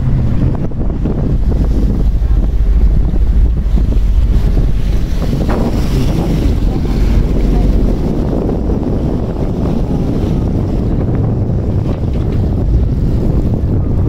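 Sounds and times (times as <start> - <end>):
low rumble of ferry: 0.0 - 14.0
rush of water: 0.0 - 14.0
wind buffeting microphone: 0.0 - 14.0.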